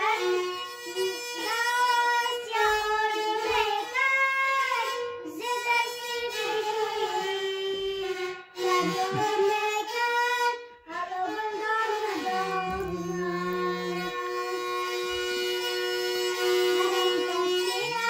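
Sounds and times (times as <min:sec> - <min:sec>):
boy singing: 0:00.0 - 0:18.0.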